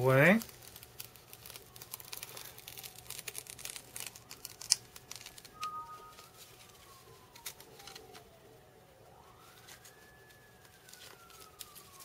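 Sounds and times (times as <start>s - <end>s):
adhesive liner peeling crackle: 0.0s - 8.3s, 9.4s - 12.0s
faint siren: 0.0s - 12.0s.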